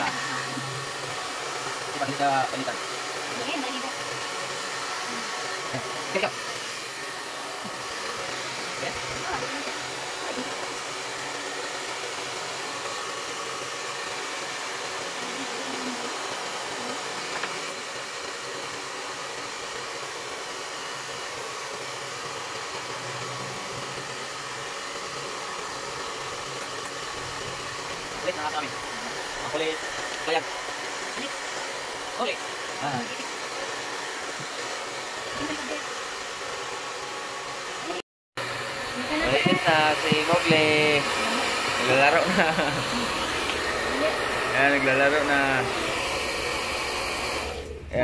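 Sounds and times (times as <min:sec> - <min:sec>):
hair dryer blowing: 0:00.0 - 0:48.0.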